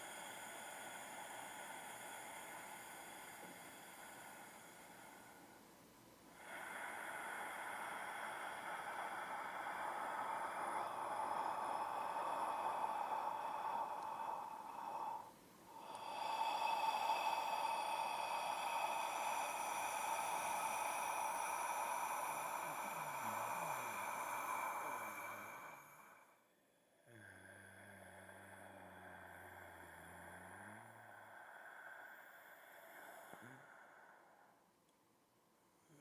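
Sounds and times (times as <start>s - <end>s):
raspy hissing creature breath: 0.0s - 5.6s, 6.3s - 26.4s, 27.9s - 34.6s.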